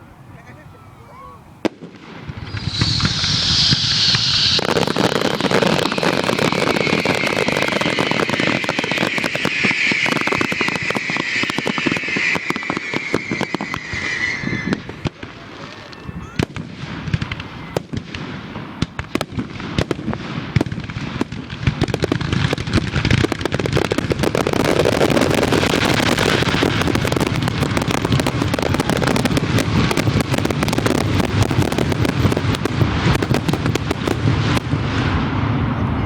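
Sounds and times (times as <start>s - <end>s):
fireworks cracks and booms: 1.6s - 36.0s.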